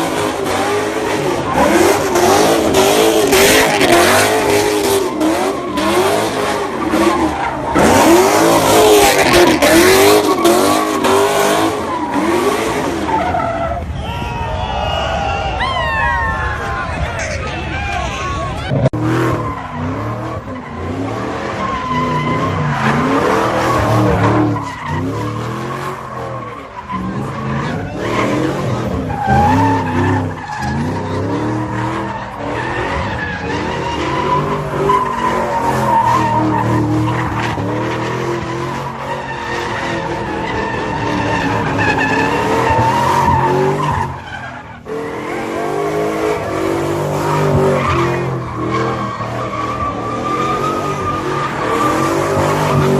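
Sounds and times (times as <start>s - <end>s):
car engine revving: 0.0s - 13.8s, 18.6s - 52.9s.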